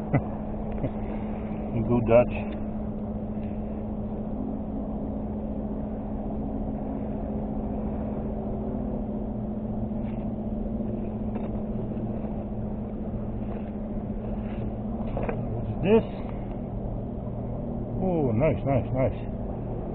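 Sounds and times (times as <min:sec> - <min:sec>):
engine drone: 0:00.0 - 0:19.9.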